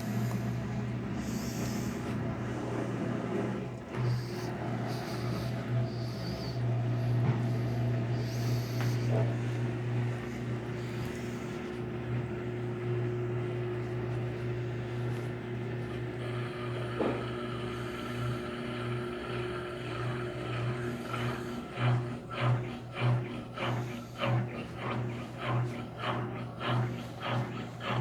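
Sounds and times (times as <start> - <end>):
washing machine spinning: 0.0 - 28.0.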